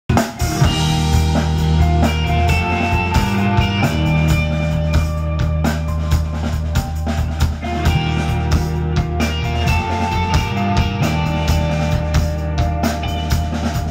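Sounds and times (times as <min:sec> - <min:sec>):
drum kit: 0:00.0 - 0:13.9
bass guitar: 0:00.1 - 0:13.9
electric guitars: 0:00.1 - 0:13.9.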